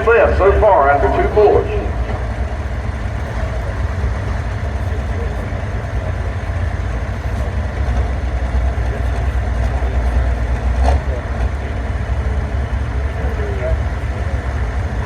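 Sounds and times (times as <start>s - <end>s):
tractor engine rumbling: 0.0s - 15.0s.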